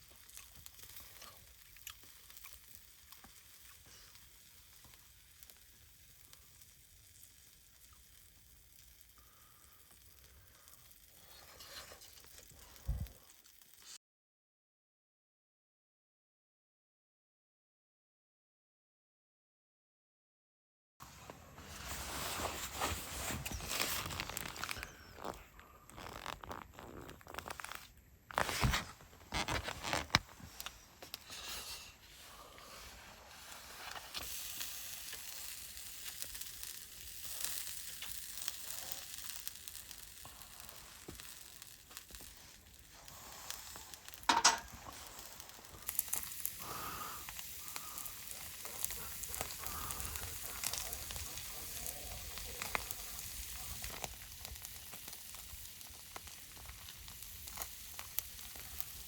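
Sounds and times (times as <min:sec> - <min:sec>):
food sizzling: 0:00.0 - 0:14.0, 0:21.7 - 0:27.8, 0:28.4 - 0:59.0.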